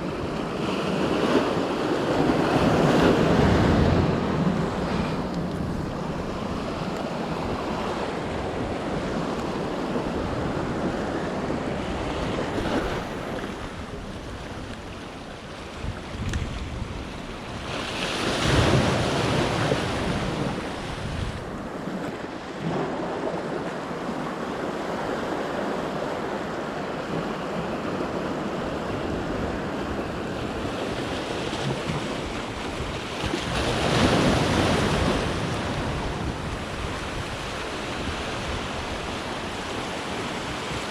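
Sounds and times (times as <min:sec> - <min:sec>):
wind buffeting microphone: 0:00.0 - 0:22.1, 0:27.1 - 0:40.9
sea waves washing in: 0:00.0 - 0:40.9.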